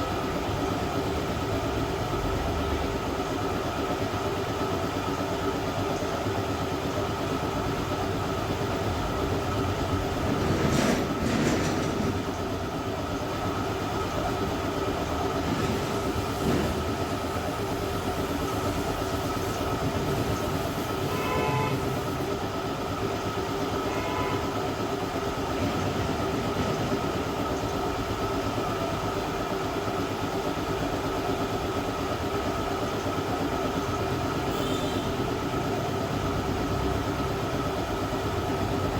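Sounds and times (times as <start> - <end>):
hot-air welder blower hum: 0.0 - 38.9.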